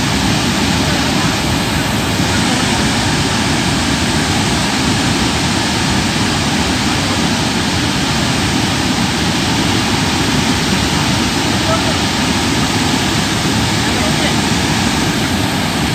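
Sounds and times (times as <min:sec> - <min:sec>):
flash flood rushing: 0:00.0 - 0:15.9.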